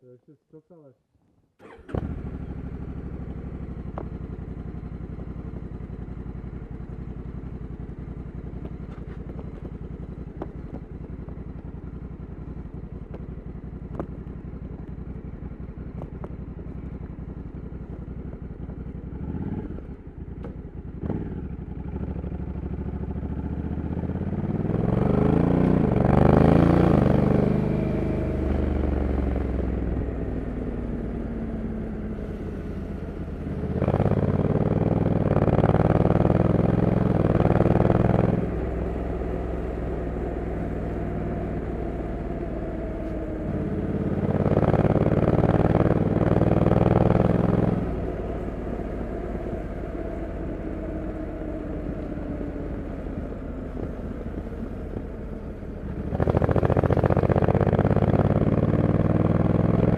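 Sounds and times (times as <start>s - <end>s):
motorcycle engine: 1.2s - 59.9s.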